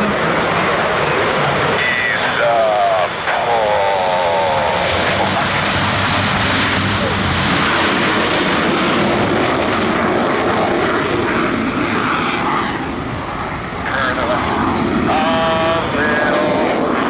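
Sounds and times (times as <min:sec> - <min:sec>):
jet noise: 0:00.0 - 0:17.0.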